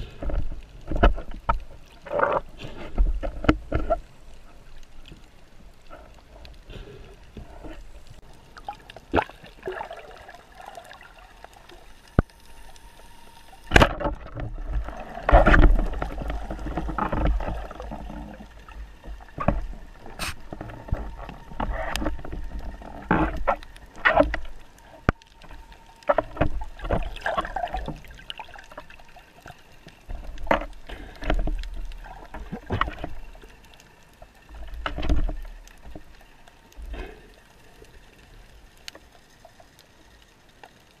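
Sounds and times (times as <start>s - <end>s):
underwater gurgling and rushing: 0.0s - 41.0s.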